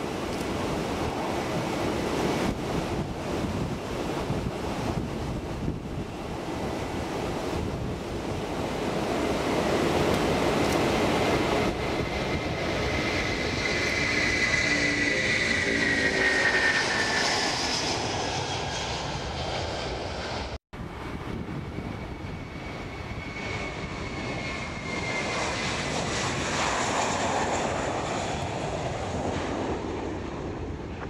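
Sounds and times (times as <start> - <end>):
jet engine whine passing: 0.0 - 31.0
jet turbofans running: 0.0 - 31.0.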